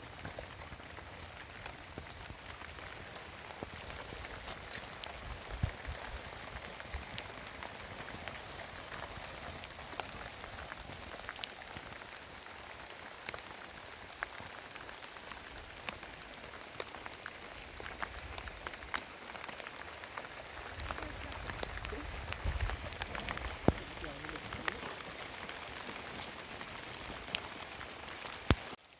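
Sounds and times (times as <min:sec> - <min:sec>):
heavy rain falling: 0:00.0 - 0:28.9
sharp raindrop impacts: 0:00.0 - 0:28.9.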